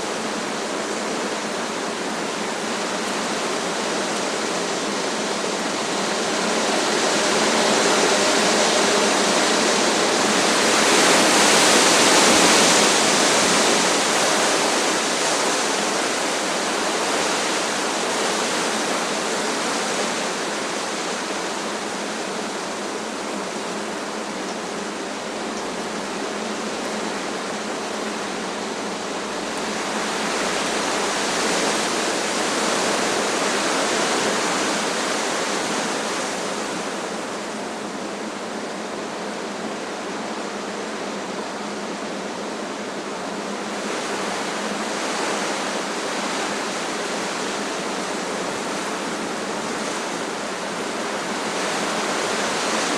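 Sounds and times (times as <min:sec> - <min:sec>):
strong wind through trees: 0:00.0 - 0:52.9.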